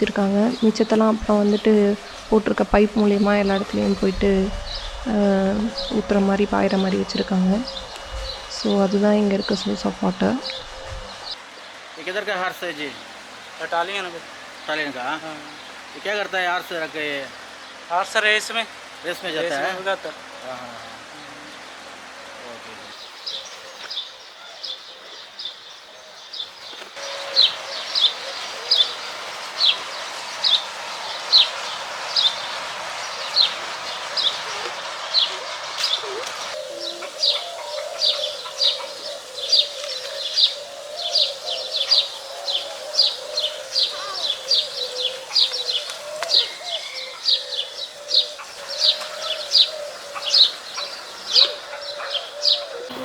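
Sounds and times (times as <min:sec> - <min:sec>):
bird chirping: 0:00.0 - 0:11.7, 0:14.5 - 0:53.0
steady hiss: 0:00.0 - 0:53.0.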